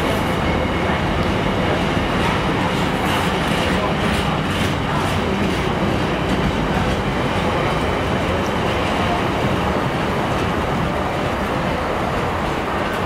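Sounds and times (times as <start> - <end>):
train wheels rolling on track: 0.0 - 13.0.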